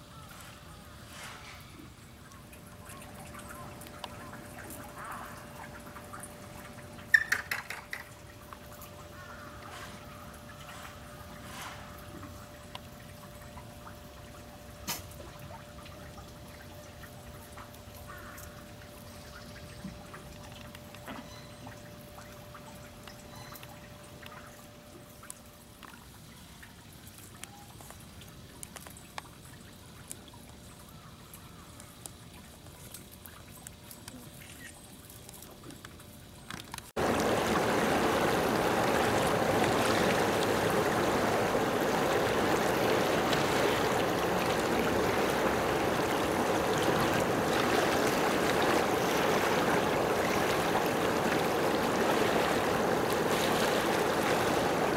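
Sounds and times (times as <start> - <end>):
rushing water: 0.0 - 30.6, 36.5 - 54.9.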